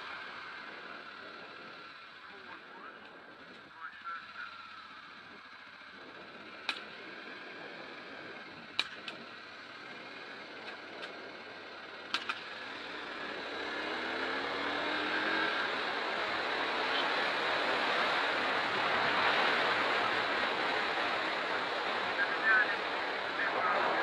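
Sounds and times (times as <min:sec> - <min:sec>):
motorcycle engine: 0:00.0 - 0:24.0.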